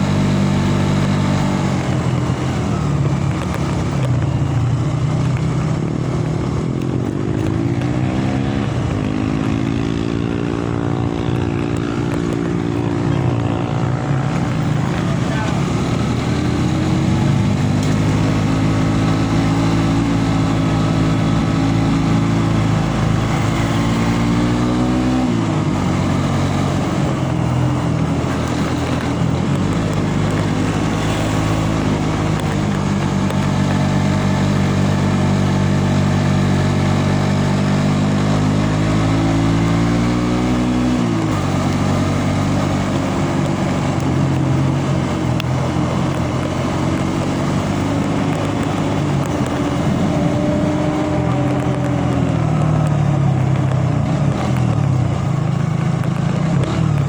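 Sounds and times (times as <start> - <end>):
vehicle engine accelerating: 0.0 - 57.0.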